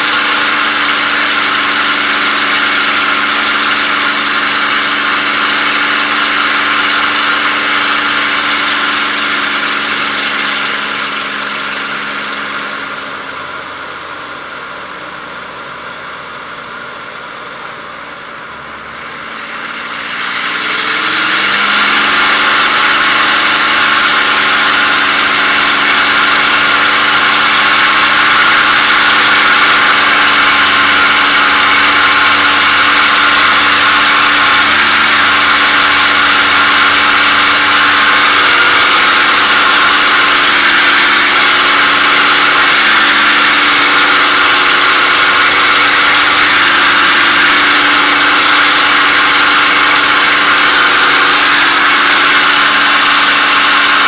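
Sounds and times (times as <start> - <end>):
aircraft engine from cockpit: 0.0 - 54.0.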